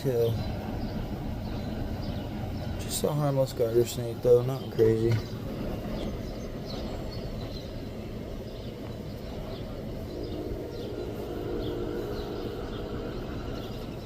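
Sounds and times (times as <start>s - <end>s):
distant pitched drone: 0.0s - 14.0s
small birds chirping: 0.0s - 14.0s
steady low rumble: 0.0s - 14.0s.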